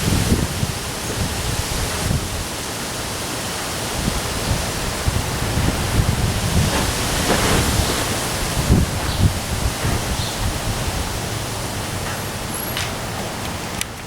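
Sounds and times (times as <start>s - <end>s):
wind gusts buffeting microphone: 0.0s - 13.7s
heavy rain: 0.0s - 14.0s.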